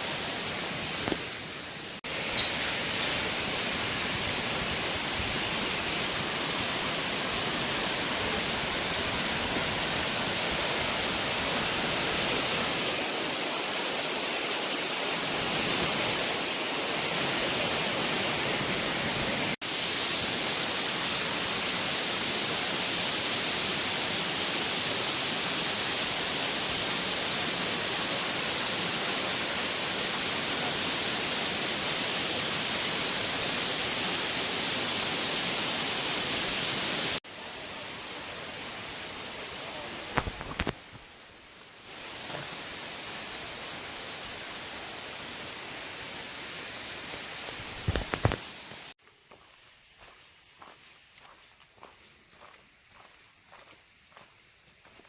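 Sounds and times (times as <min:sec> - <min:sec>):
steady rushing noise with hiss: 0:00.0 - 0:49.0.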